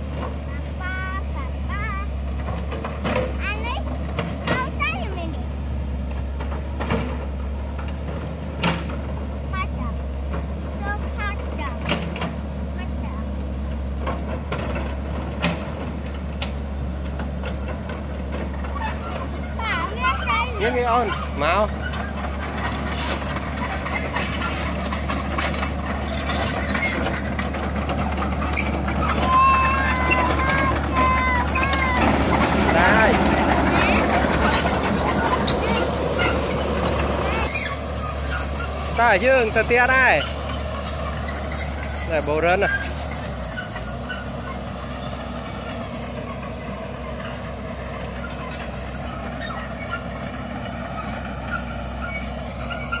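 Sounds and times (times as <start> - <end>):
diesel engine running: 0.0 - 53.0
steel track clatter: 0.0 - 53.0.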